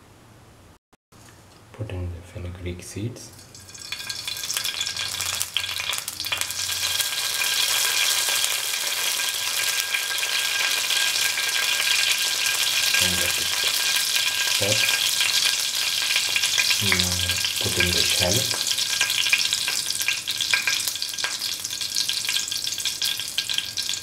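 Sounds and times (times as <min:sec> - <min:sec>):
seeds sizzling in hot oil: 0:03.3 - 0:24.0.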